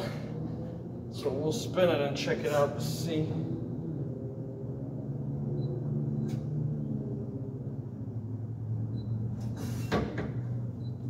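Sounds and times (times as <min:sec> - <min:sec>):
wheel balancer humming: 0:00.0 - 0:11.0.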